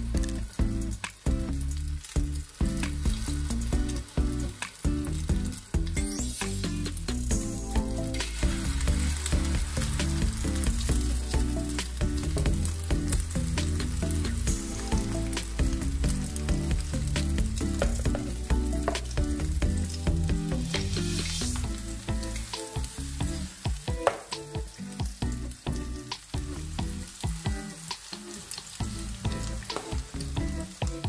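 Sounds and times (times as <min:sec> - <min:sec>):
oil sizzling in frying pan: 0:00.0 - 0:31.0.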